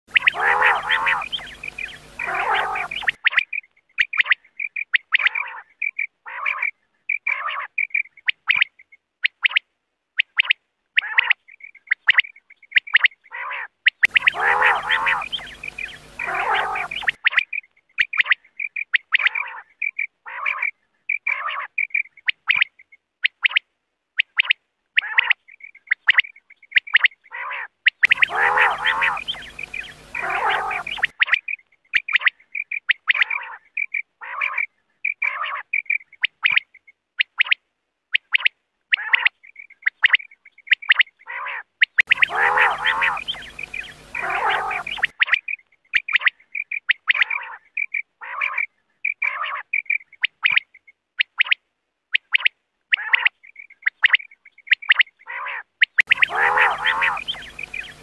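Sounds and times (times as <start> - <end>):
quail calling: 0.1 - 9.6, 10.2 - 23.6, 24.2 - 37.6, 38.2 - 51.6, 52.2 - 58.0.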